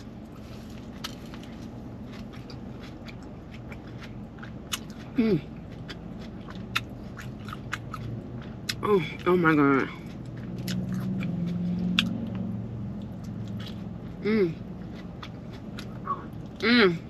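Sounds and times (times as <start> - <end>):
person chewing food: 0.0 - 16.6
steady low hum: 0.0 - 17.0.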